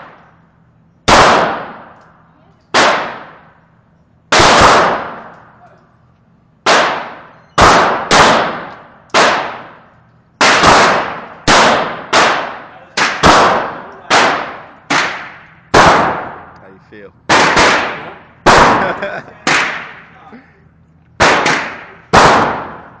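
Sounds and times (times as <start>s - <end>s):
pistol shots ringing: 1.0s - 5.6s, 6.6s - 16.6s, 17.3s - 20.1s, 21.2s - 23.0s.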